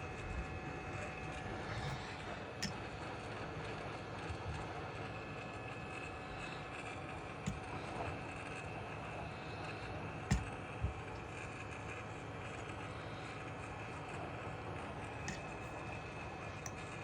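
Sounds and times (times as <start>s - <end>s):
hot air station blowing: 0.0s - 17.0s.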